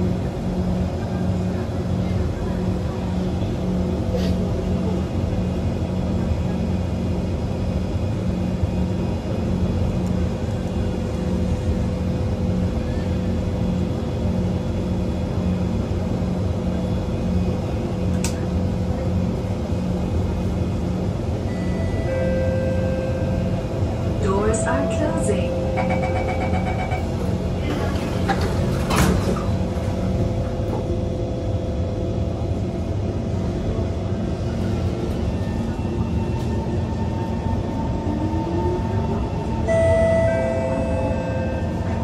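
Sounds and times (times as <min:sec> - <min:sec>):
metro train car hum: 0:00.0 - 0:42.0.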